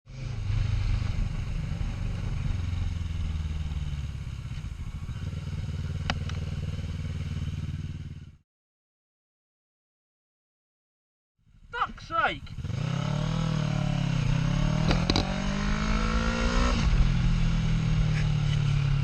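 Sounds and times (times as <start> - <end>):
vehicle engine rumbling: 0.1 - 8.4, 11.6 - 19.0.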